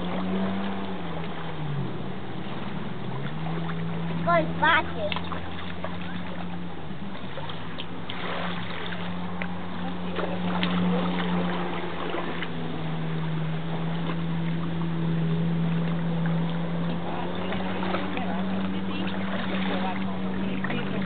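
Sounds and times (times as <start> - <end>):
jet ski engine running: 0.0 - 21.0.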